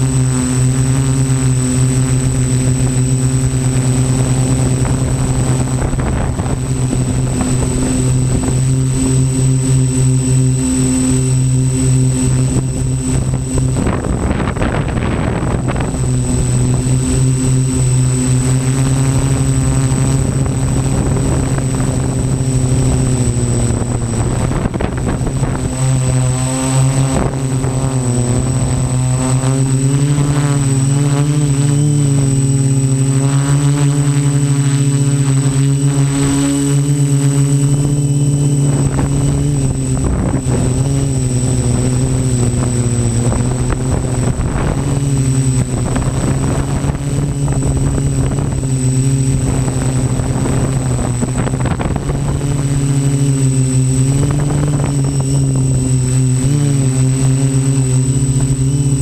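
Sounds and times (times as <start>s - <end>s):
quadcopter propellers buzzing: 0.0s - 59.0s
thin high whine: 0.0s - 59.0s.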